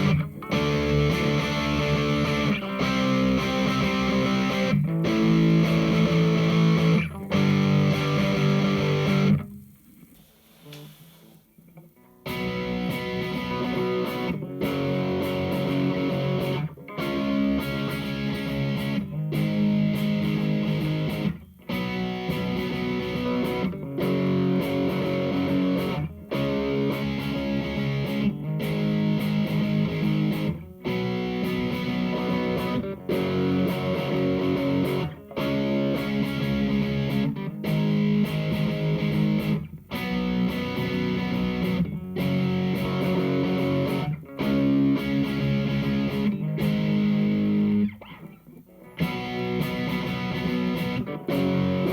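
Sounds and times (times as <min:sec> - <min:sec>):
overdriven electric guitar riff: 0:00.0 - 0:51.9.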